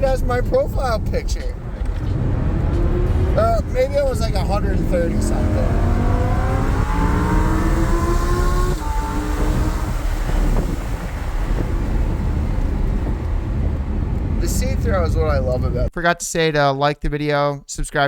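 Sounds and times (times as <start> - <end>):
car engine accelerating hard: 0.0 - 15.8.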